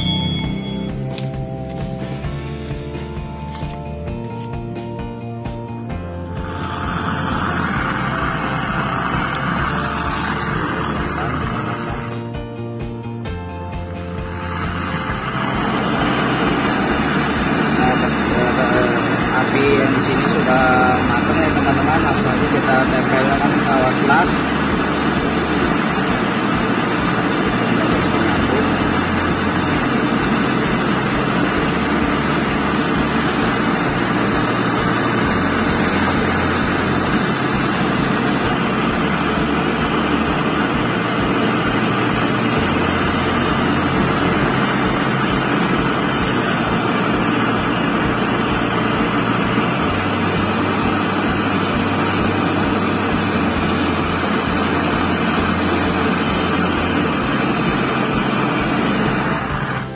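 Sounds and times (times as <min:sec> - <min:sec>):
gas torch hissing: 0:00.0 - 0:59.9.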